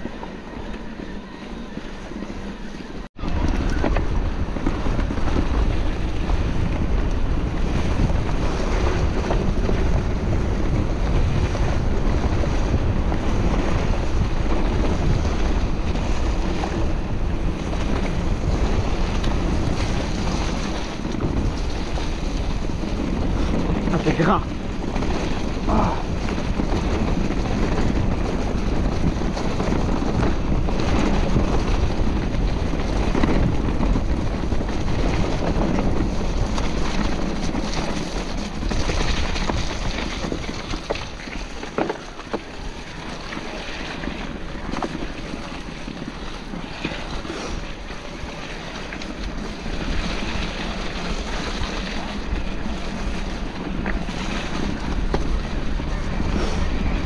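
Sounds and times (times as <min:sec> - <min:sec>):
bike knocking and rattling: 0:00.0 - 0:57.0
wind buffeting microphone: 0:00.0 - 0:57.0.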